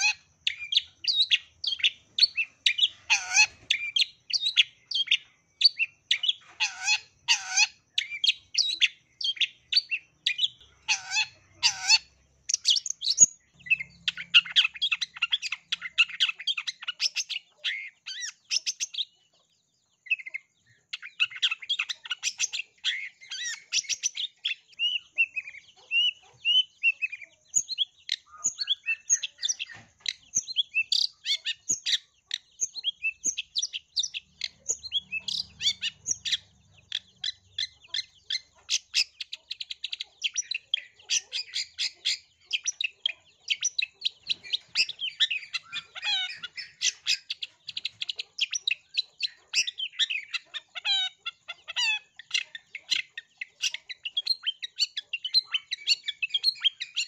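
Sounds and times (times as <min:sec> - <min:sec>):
bird singing chirps and trills: 0:00.0 - 0:57.0.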